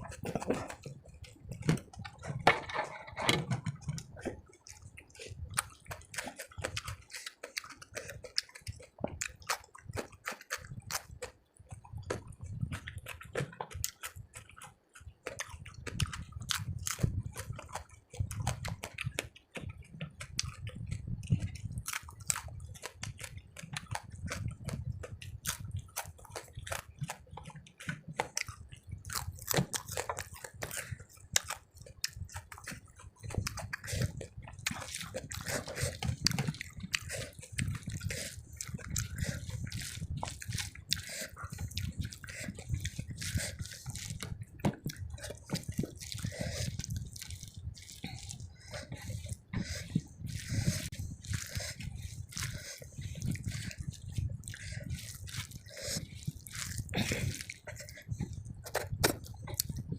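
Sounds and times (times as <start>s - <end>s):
close-up chewing with mouth smacks: 0.0s - 59.9s.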